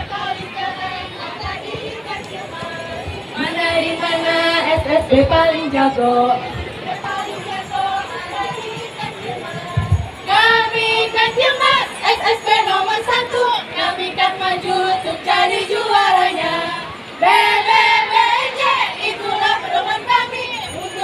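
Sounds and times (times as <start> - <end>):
women singing and chanting: 0.0 - 21.0.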